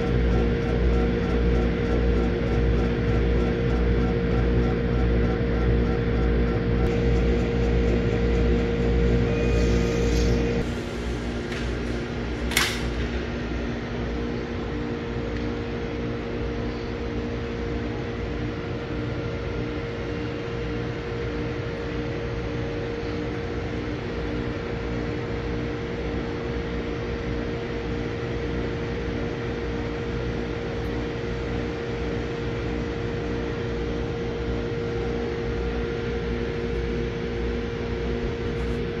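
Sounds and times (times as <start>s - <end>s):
fan humming with hiss: 0.0s - 39.0s.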